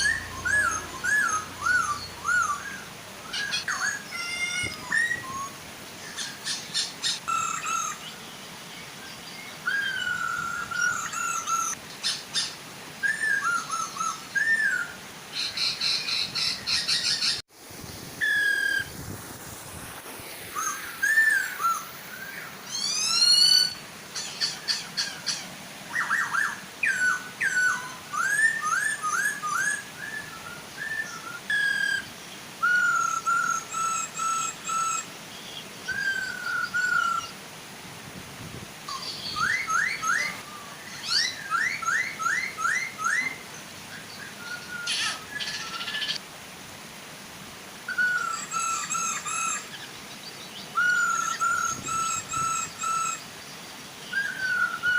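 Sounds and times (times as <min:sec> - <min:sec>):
laughingthrushes calling: 0:00.0 - 0:17.4, 0:18.0 - 0:37.4, 0:38.8 - 0:46.2, 0:47.9 - 0:54.9
waterfall rushing: 0:00.0 - 0:54.9.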